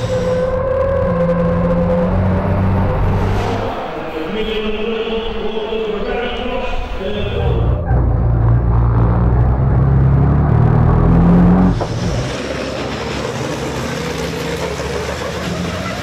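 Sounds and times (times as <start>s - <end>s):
race trucks passing at speed: 0.0s - 16.0s
truck engine accelerating: 0.0s - 16.0s.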